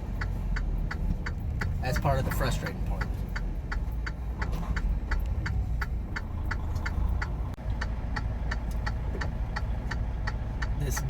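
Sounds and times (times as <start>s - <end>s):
truck engine rumble: 0.0s - 11.0s
turn signal clicking: 0.0s - 11.0s.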